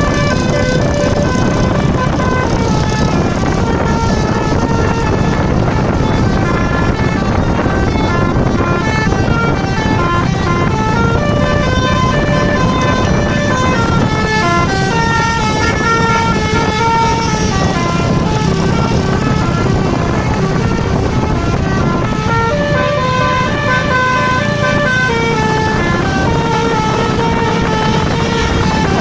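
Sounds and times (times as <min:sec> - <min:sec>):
multi-tone bus horn melody: 0:00.0 - 0:29.0
steady low rumble: 0:00.0 - 0:29.0.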